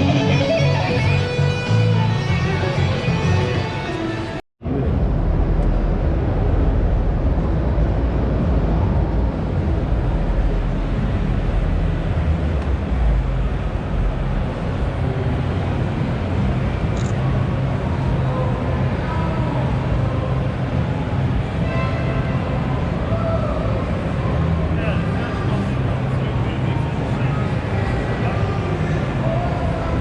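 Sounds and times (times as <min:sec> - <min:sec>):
exhibition hall rumble: 0:00.0 - 0:30.0.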